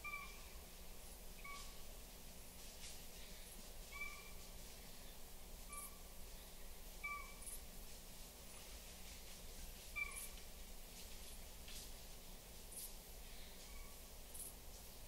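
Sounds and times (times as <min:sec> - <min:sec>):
faint background ambience: 0:00.0 - 0:15.0.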